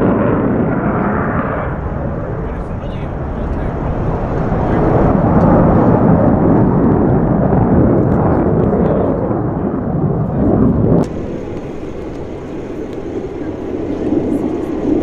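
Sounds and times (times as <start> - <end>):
fighter jet afterburner roar: 0.0 - 15.0.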